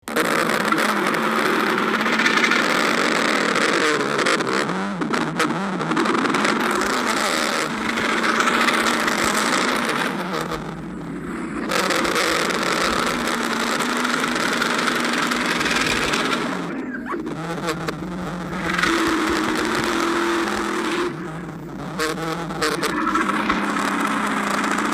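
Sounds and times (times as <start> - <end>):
stomach growling: 0.0 - 24.9.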